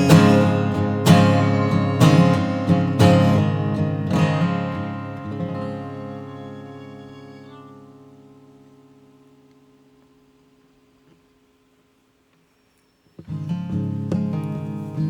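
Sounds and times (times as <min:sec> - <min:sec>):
acoustic guitar strumming: 0:00.0 - 0:11.2, 0:13.2 - 0:15.0.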